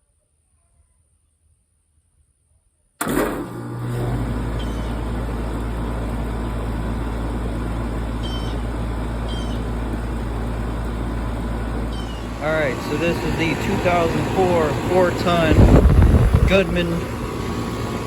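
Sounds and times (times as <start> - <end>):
compressor hum: 3.0 - 18.0
condenser fan rushing: 3.0 - 18.0.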